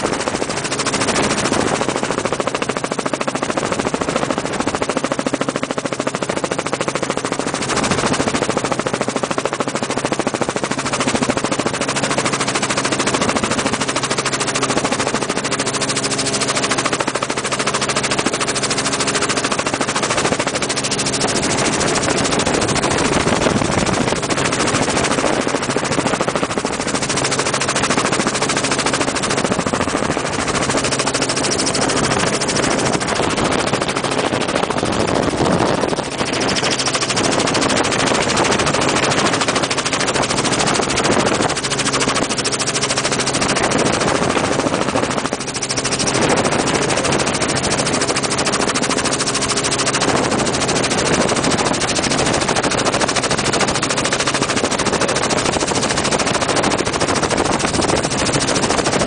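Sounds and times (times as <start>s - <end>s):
helicopter engine drone: 0.0s - 59.0s
helicopter rotor chop: 0.0s - 59.0s.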